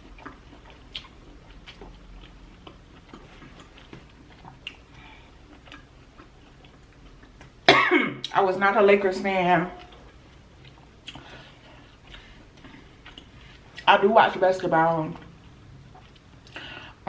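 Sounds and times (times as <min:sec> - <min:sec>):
person chewing food: 0:00.0 - 0:08.4, 0:09.7 - 0:13.9, 0:15.2 - 0:17.0.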